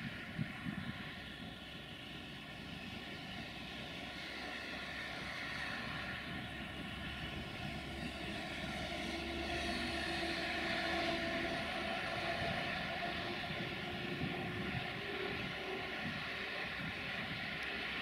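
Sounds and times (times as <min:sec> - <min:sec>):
electric train running: 0:00.0 - 0:18.0.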